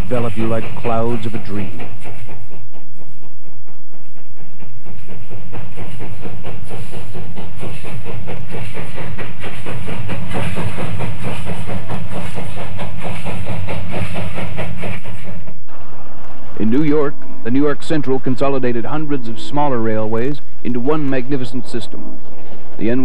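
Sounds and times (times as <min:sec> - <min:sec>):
steam locomotive beats: 0:00.0 - 0:23.0.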